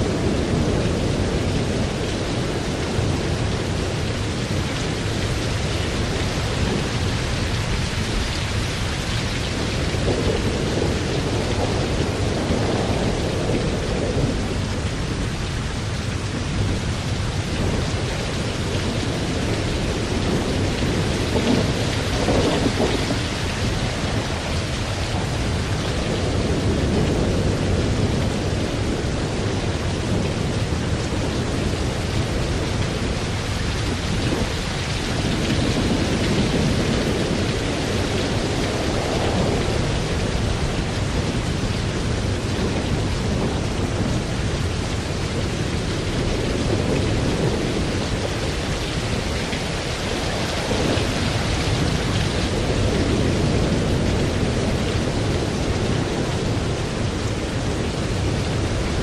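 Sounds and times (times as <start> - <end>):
heavy rain hissing: 0.0 - 59.0
thunder rolling: 0.0 - 59.0.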